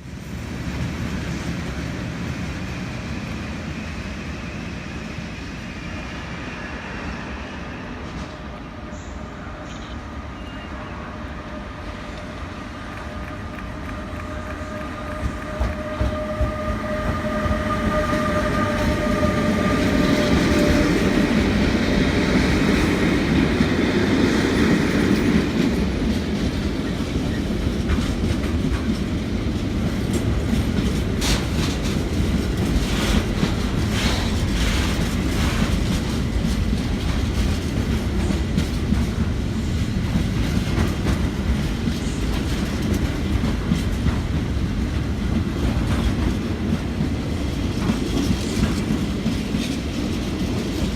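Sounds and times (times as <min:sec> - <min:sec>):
train rumbling: 0:00.0 - 0:50.9.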